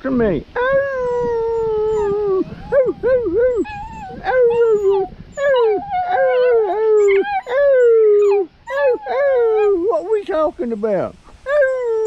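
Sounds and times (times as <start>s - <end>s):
small dog howling and yelping: 0.6s - 9.9s, 11.5s - 12.0s.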